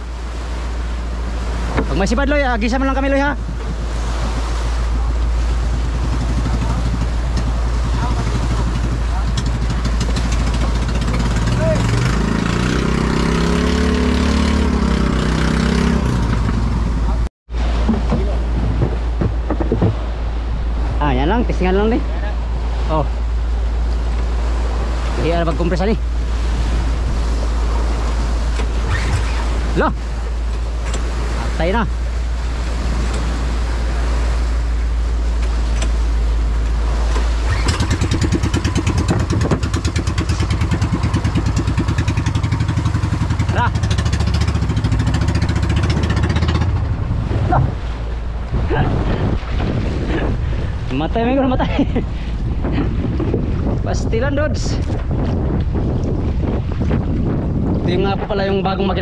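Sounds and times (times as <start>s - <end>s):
boat engine rumble: 0.0s - 59.0s
sea noise: 0.0s - 59.0s
wind: 0.0s - 59.0s.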